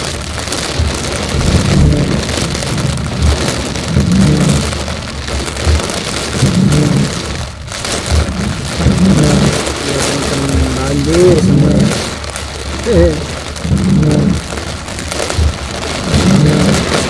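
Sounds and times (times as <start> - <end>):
heavy rain on car roof: 0.0 - 17.0
low car rumble: 0.0 - 17.0.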